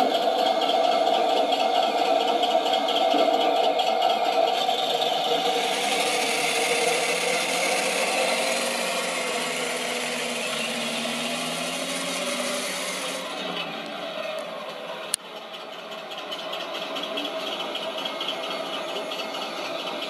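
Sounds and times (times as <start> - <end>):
simulated tank engine sound: 0.0 - 20.0
whir of drive gearboxes: 0.0 - 20.0.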